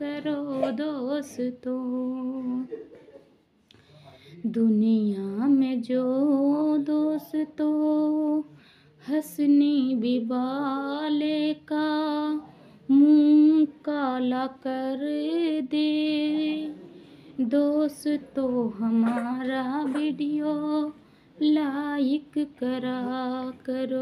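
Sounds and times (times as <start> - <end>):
woman singing: 0.0 - 2.8, 4.4 - 16.8, 17.4 - 24.0.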